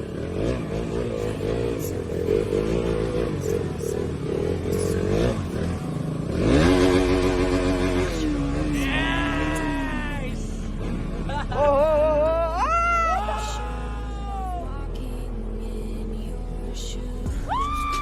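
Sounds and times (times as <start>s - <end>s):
motorcycle engine revving: 0.0s - 16.1s.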